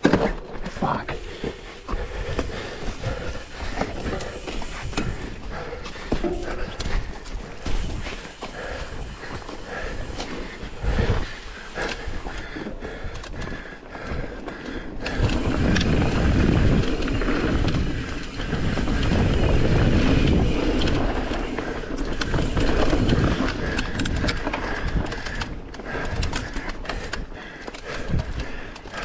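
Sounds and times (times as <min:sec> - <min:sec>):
bike rattling over bumps: 0:00.0 - 0:29.0
tyres rolling on dirt: 0:00.0 - 0:29.0
wind buffeting microphone: 0:01.0 - 0:29.0.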